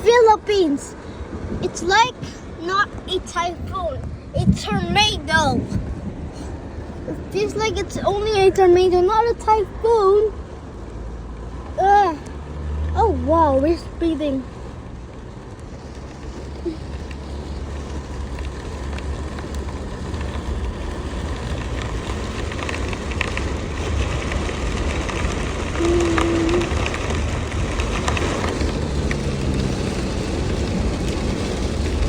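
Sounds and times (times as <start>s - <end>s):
car road and engine rumble: 0.0s - 32.0s
rain tapping on windshield: 0.0s - 32.0s.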